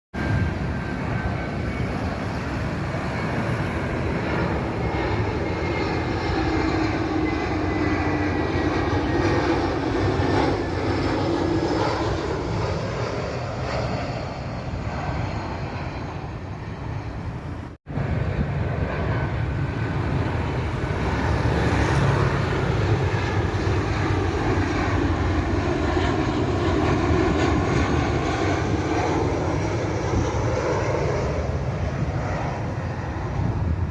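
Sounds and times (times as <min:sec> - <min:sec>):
jet airliner passing overhead: 0:00.1 - 0:33.9.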